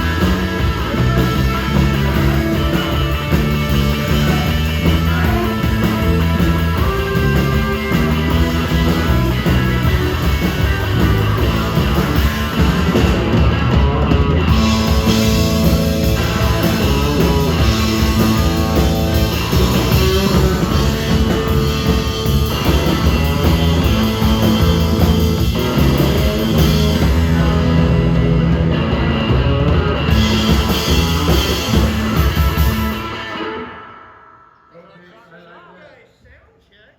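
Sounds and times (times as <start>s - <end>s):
electric guitar: 0.0s - 34.7s
drum kit: 0.0s - 35.4s.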